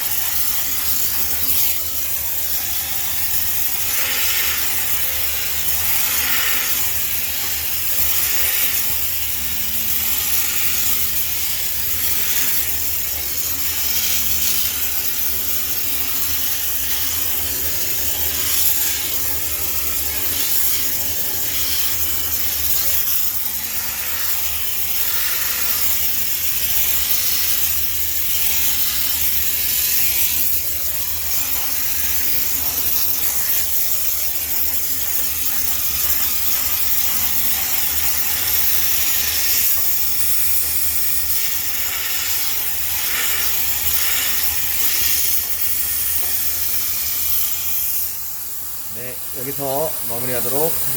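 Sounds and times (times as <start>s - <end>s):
steam cleaner hissing: 0.0s - 50.9s.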